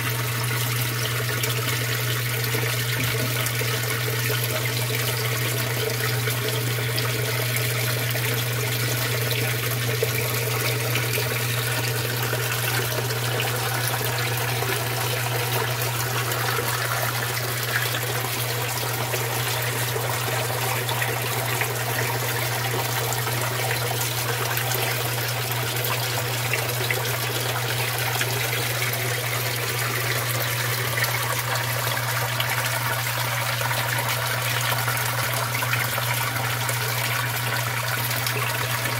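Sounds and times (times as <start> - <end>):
water pouring and splashing into tank: 0.0 - 38.9.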